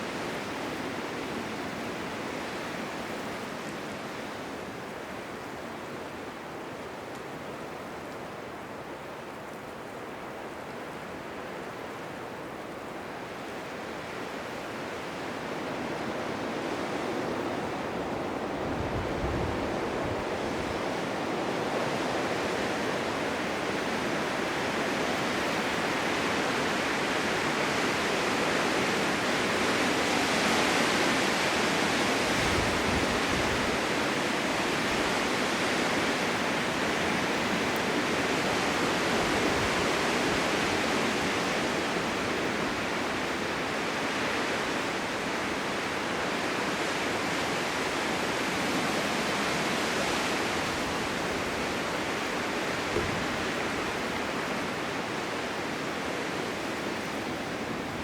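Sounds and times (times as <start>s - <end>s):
blizzard wind blowing: 0.0s - 58.0s.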